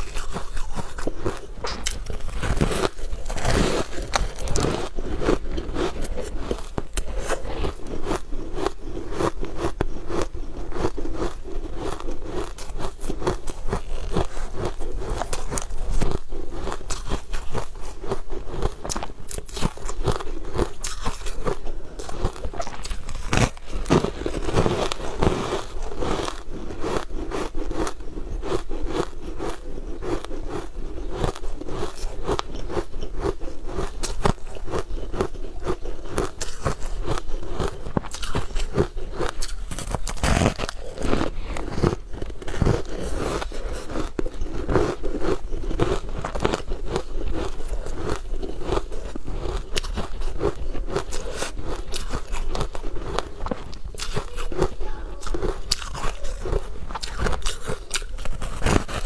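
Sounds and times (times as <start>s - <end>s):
chewing crumbly cake: 0.0s - 59.0s.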